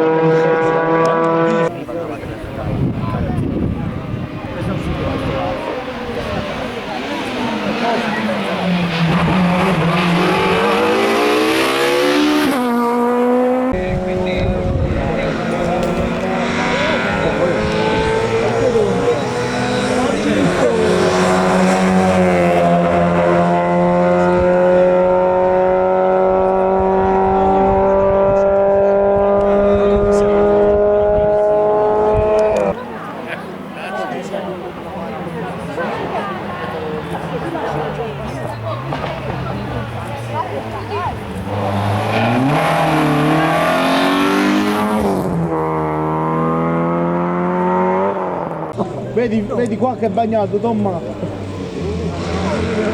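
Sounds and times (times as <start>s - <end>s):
race car engine pulling hard: 0.0s - 52.9s.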